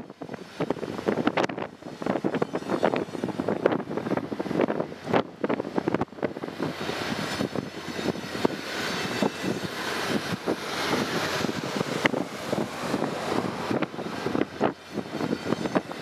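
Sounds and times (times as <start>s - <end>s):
train wheels roaring on rail: 0.0s - 16.0s.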